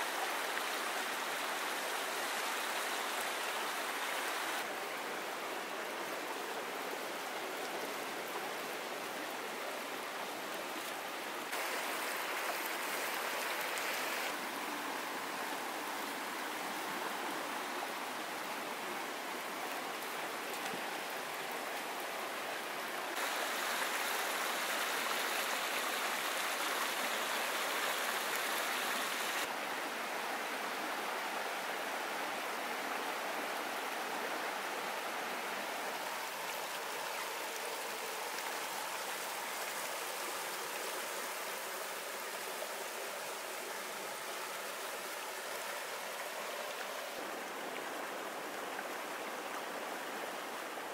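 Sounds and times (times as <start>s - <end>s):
river rushing over boulders: 0.0s - 50.9s.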